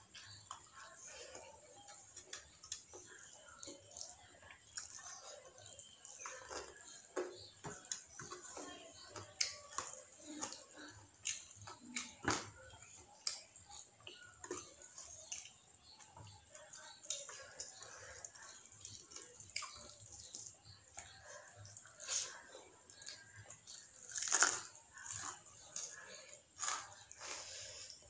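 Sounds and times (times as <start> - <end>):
chewing: 0.0 - 28.0.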